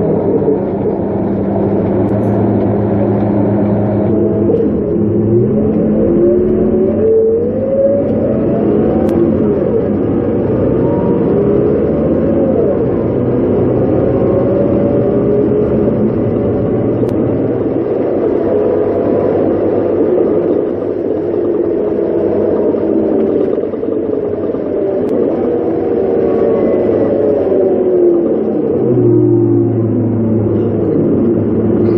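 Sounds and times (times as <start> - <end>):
bus diesel engine running: 0.0 - 31.9.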